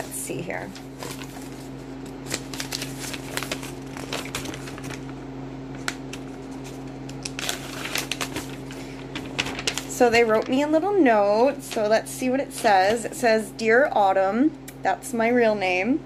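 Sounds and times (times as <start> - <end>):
paper rustling: 0.0 - 13.2
steady low hum: 0.0 - 16.0.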